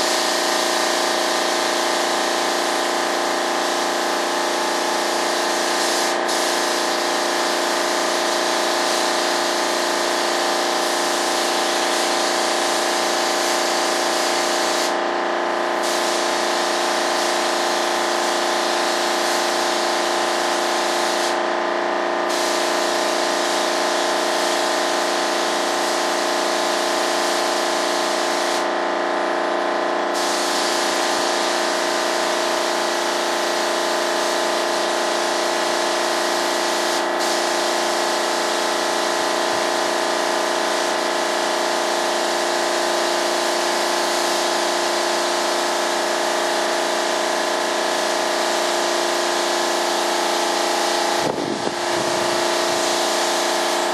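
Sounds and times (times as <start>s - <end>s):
spray gun hissing: 0.0s - 42.5s, 43.6s - 44.5s, 47.5s - 53.9s
air compressor humming: 0.0s - 53.9s.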